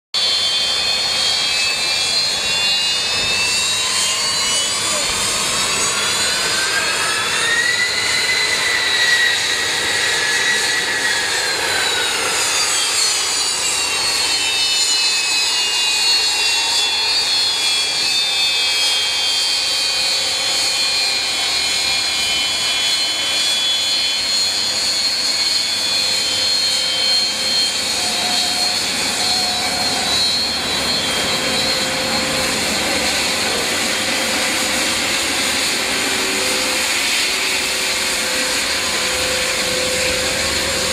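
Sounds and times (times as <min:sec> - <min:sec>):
turbine engine whine: 0:00.1 - 0:40.9.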